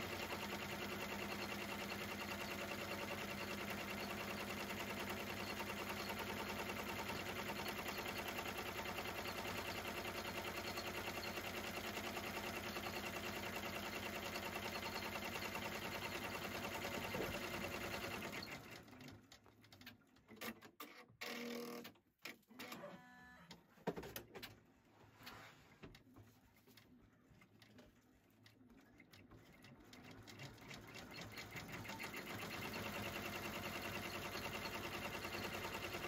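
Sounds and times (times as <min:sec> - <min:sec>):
embroidery machine stitching: 0:00.0 - 0:22.8, 0:28.8 - 0:36.0.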